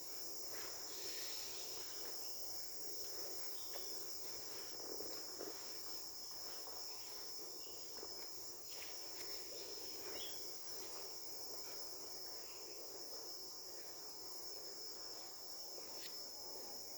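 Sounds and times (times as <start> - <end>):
insects trilling: 0.0 - 16.9.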